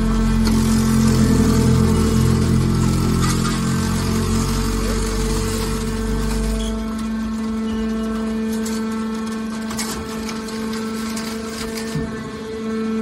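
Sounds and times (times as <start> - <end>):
hydraulic motor and pump humming: 0.0 - 13.0.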